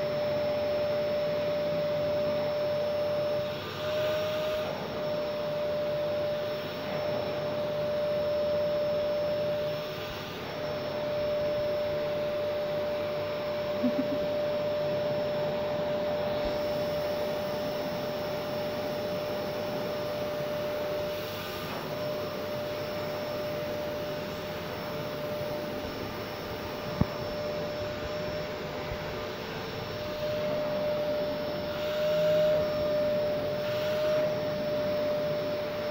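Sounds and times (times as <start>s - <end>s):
vacuum cleaner whining: 0.0s - 35.9s.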